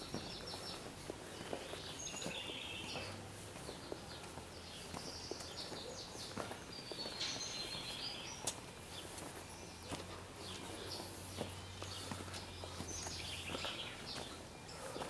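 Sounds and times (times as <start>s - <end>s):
birds chirping and singing: 0.0s - 15.0s
faint outdoor background noise: 0.0s - 15.0s
footsteps on cobblestones: 0.0s - 15.0s.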